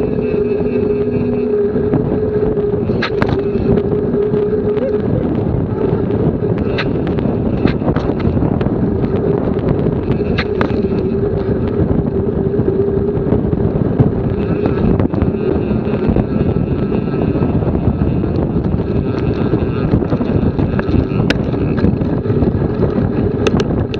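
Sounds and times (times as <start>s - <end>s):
faint steady hum: 0.0s - 23.9s
wind buffeting microphone: 0.0s - 23.9s.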